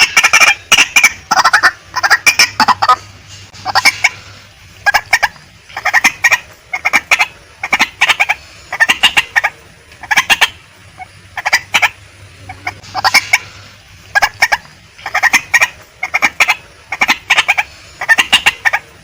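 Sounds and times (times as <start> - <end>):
waterhen calling in harsh bursts: 0.0 - 19.0.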